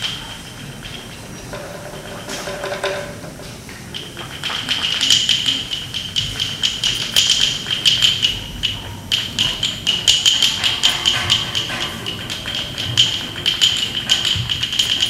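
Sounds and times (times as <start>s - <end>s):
sharp clacking percussion: 0.0s - 15.0s.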